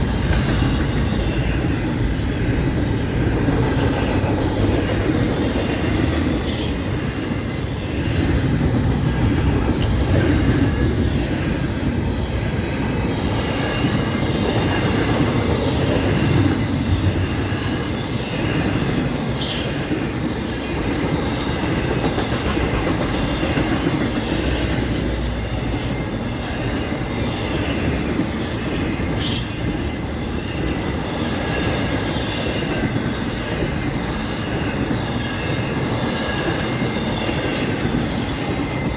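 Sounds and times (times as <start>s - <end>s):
freight train wheels rumbling on rail: 0.0s - 38.9s.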